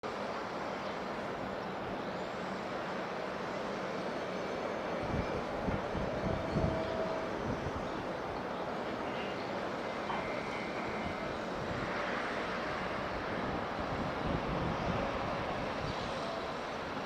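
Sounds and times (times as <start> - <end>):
airliner jet engine: 0.0 - 17.0.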